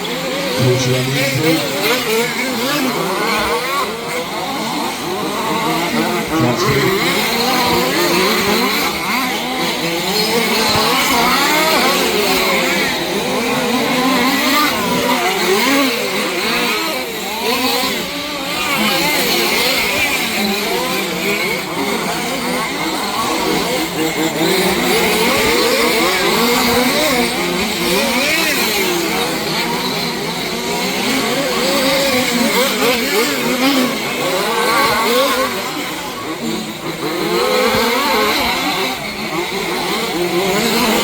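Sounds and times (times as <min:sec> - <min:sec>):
rc car engines revving: 0:00.0 - 0:41.0.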